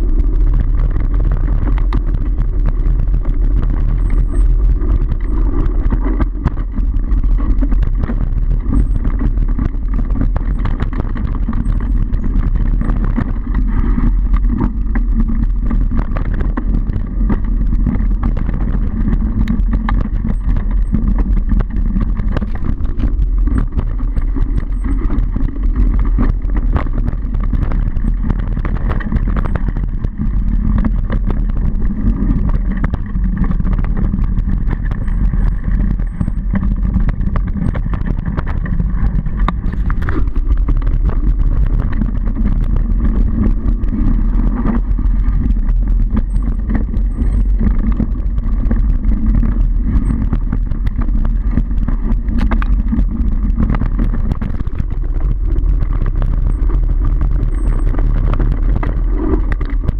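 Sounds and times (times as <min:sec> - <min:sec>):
bike rattling and clicking: 0:00.0 - 0:59.9
wind rumble on microphone: 0:00.0 - 0:59.9.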